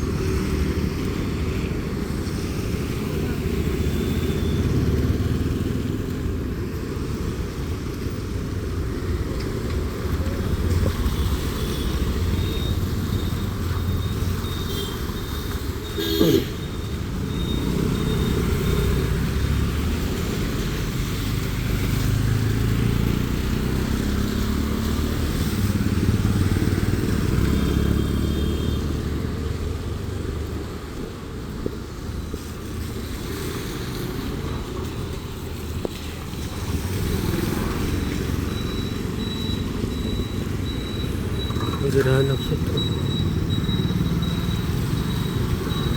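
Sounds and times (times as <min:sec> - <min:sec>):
motorcycles and cars passing: 0:00.0 - 0:45.9.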